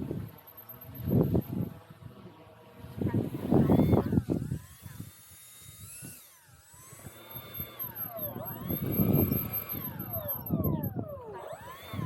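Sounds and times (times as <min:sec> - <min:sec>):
model helicopter rotor whine: 0:00.0 - 0:12.0.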